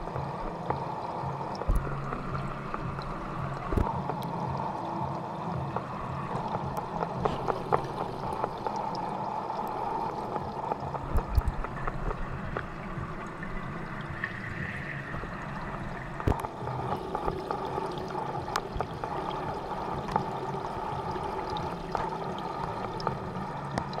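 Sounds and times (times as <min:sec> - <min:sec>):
low hum: 0:00.0 - 0:24.0
underwater water rush: 0:00.0 - 0:24.0.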